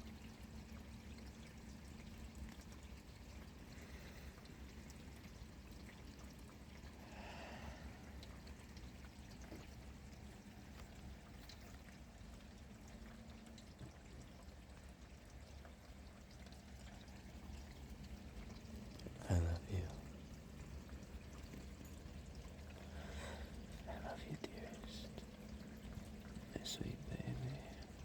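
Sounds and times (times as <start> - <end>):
steady rain: 0.0 - 28.0
water pouring and trickling: 0.0 - 28.0.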